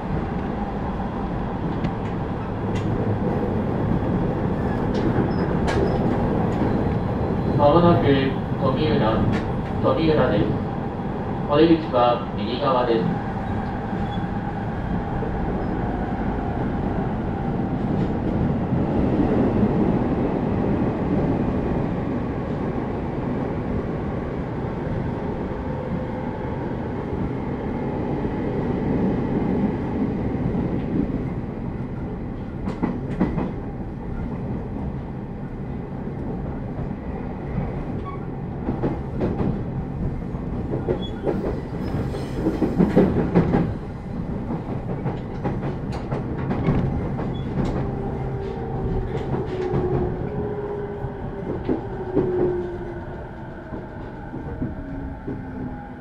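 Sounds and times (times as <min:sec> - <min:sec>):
train running rumble: 0:00.0 - 0:24.2, 0:28.8 - 0:56.0.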